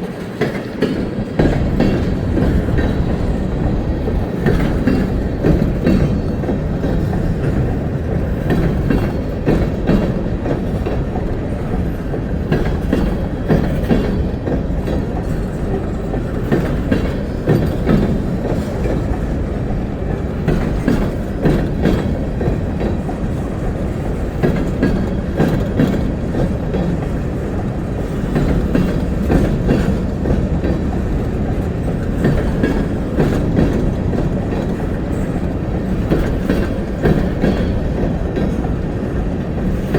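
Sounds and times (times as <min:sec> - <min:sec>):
train wheels rumbling and clacking: 0:00.0 - 0:39.9.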